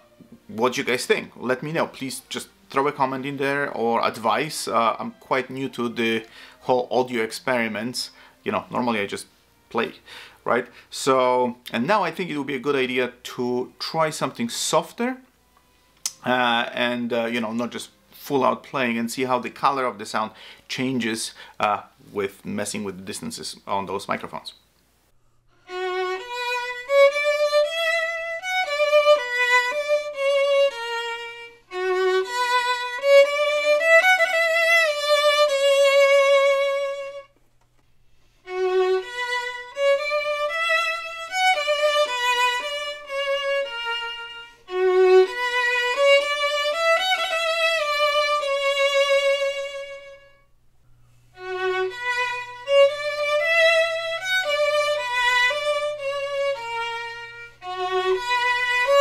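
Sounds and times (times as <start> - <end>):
solo violin playing: 0.0 - 15.0, 16.0 - 21.8, 25.5 - 37.4, 38.0 - 59.0.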